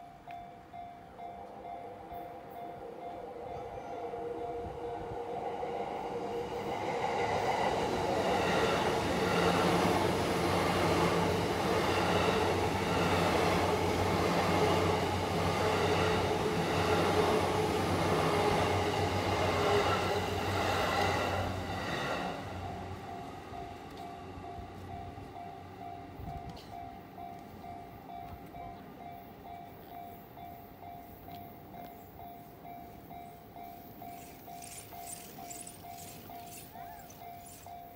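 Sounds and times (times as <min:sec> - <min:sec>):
crossing warning bell ringing: 0:00.0 - 0:37.9
electric train rumbling: 0:00.0 - 0:37.9.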